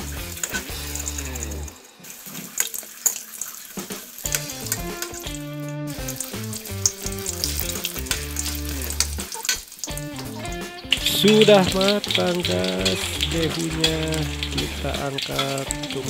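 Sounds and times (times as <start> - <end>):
background music: 0.0 - 2.1, 3.9 - 16.0
food sizzling in oil: 0.0 - 16.0
metal spatula in wok: 0.0 - 16.0.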